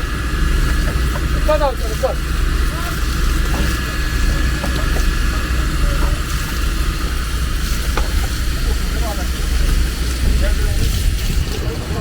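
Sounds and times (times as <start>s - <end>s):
fire hose spraying water: 0.0s - 12.0s
low engine rumble: 0.0s - 12.0s.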